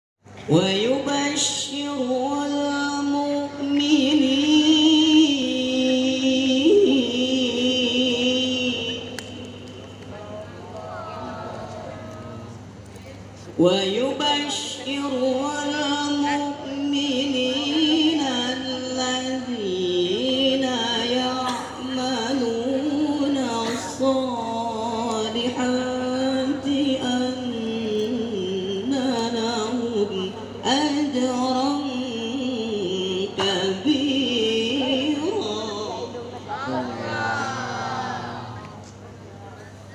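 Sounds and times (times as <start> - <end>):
man chanting through microphone: 0.4 - 12.7, 13.4 - 39.6.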